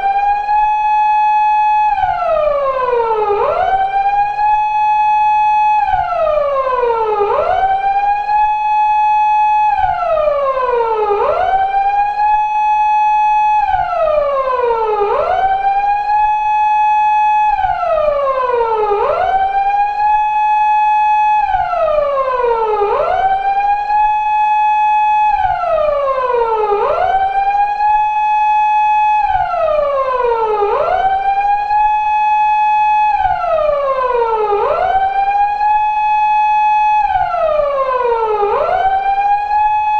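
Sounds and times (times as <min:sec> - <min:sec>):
police car siren wailing: 0:00.0 - 0:39.9.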